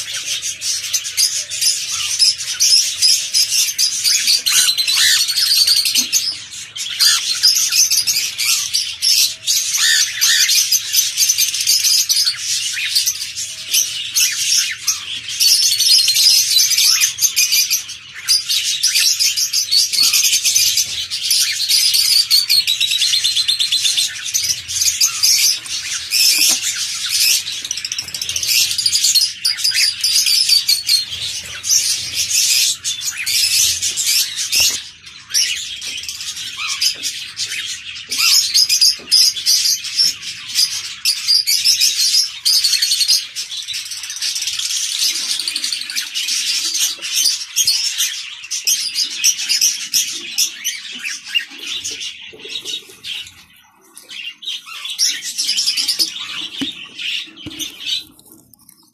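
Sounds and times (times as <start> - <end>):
caged birds chirping: 0.0 - 58.9.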